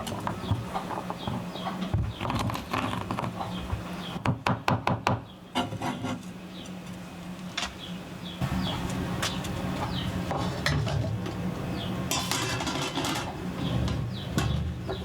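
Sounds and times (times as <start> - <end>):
small birds chirping: 0.0 - 5.6, 6.3 - 10.6, 11.6 - 12.1, 13.3 - 15.0.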